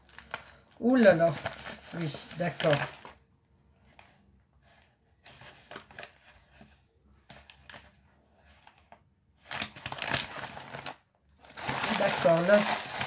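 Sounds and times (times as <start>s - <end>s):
paper and packaging rustling: 0.0s - 13.0s.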